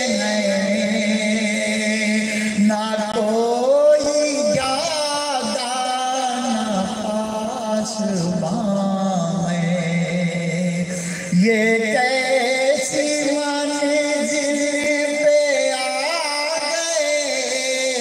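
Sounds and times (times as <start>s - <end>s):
man singing through a microphone: 0.0s - 18.0s.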